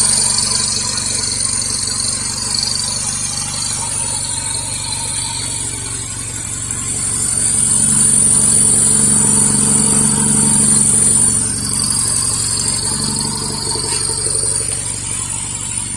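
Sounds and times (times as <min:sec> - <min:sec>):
small engine running: 0:00.0 - 0:15.9
steady high whine: 0:00.0 - 0:15.9.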